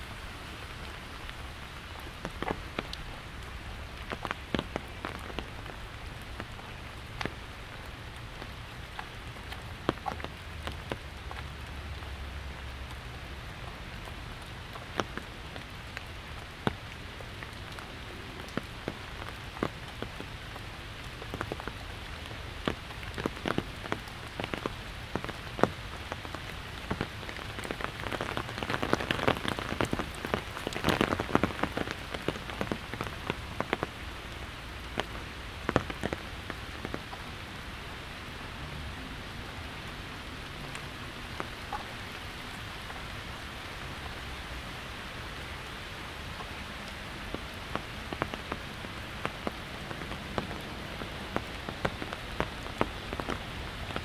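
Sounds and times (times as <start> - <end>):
rain hiss: 0.0 - 54.0
raindrops tapping on umbrella: 0.8 - 37.7, 39.7 - 44.3, 46.2 - 54.0.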